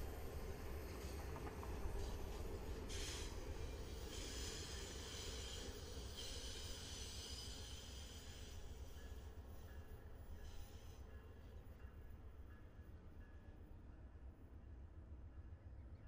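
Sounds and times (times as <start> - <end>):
train wheels rumbling on rail: 0.0 - 13.4.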